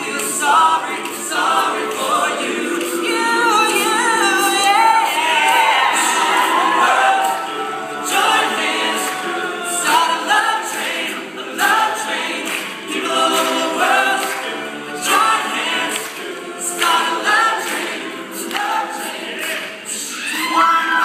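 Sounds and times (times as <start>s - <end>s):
male choir singing in harmony: 0.0s - 21.0s.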